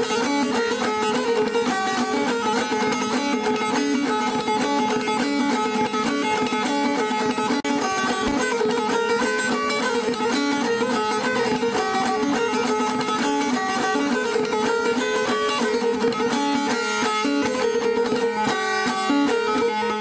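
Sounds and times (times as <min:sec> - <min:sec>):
plucked string instruments: 0:00.0 - 0:20.0.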